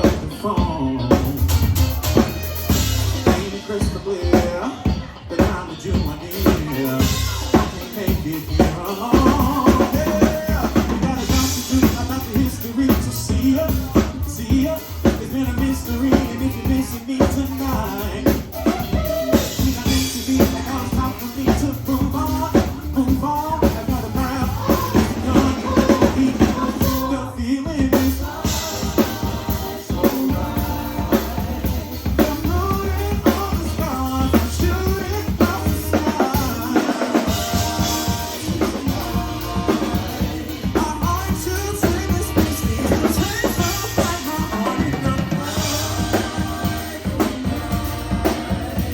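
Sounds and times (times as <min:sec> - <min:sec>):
drum kit steady beat: 0:00.0 - 0:48.9
live band playing: 0:00.0 - 0:48.9.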